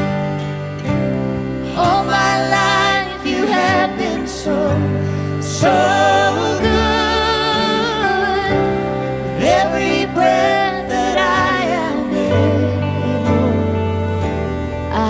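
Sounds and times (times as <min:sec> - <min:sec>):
low bass and accompaniment: 0:00.0 - 0:15.0
person singing worship song: 0:01.6 - 0:14.3.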